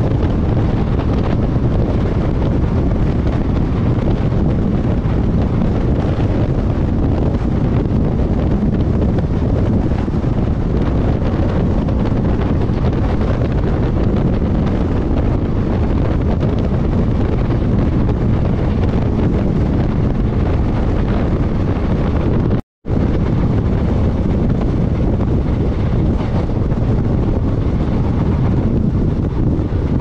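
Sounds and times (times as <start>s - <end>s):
train rumbling: 0.0s - 30.0s
wind buffeting microphone: 0.0s - 30.0s.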